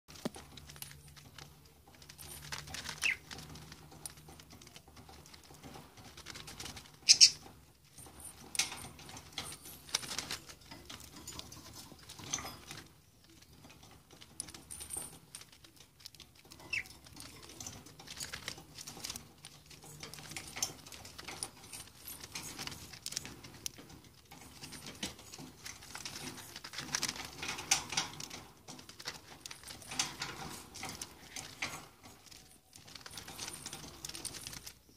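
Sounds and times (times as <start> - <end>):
bird pecking plastic capsules: 0.1 - 34.9.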